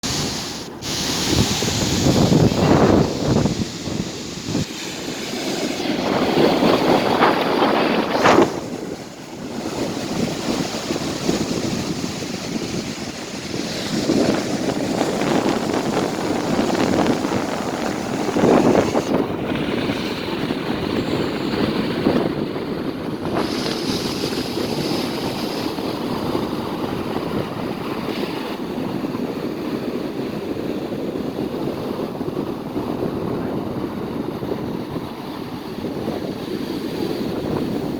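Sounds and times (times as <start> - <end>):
surf breaking on a beach: 0.0 - 37.9
wind buffeting microphone: 0.0 - 37.9.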